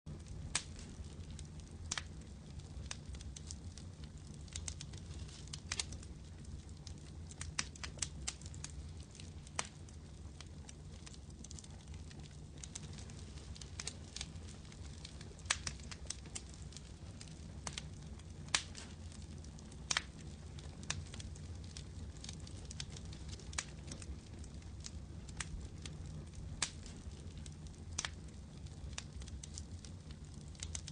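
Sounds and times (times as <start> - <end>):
campfire crackling and popping: 0.1 - 30.9
steady low background noise: 0.1 - 30.9.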